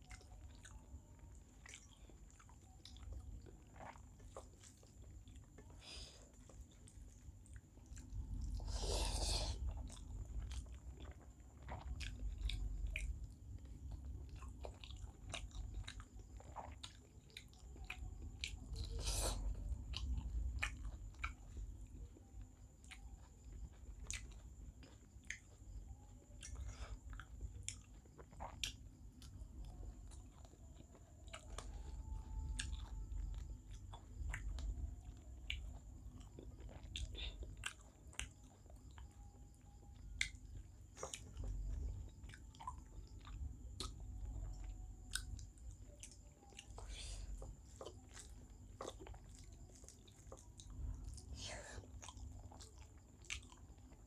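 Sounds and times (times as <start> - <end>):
wet chewing and smacking: 0.0 - 54.0.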